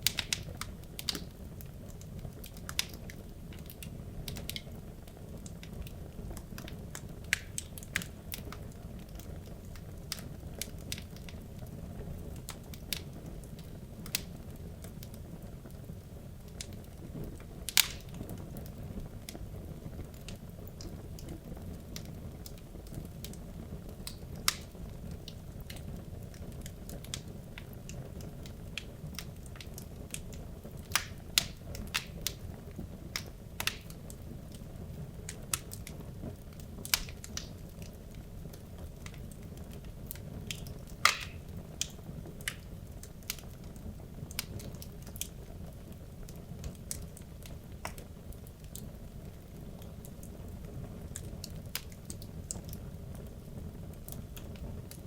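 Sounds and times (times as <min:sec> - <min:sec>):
flames rumbling: 0:00.0 - 0:55.0
wood crackling and popping: 0:00.0 - 0:55.0.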